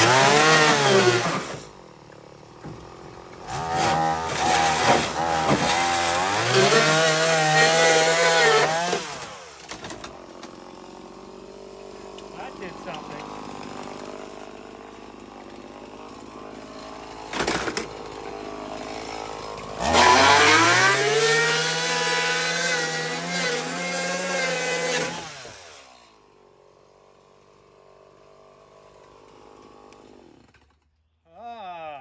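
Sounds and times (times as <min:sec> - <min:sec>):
chainsaw idling and revving: 0:00.0 - 0:31.2.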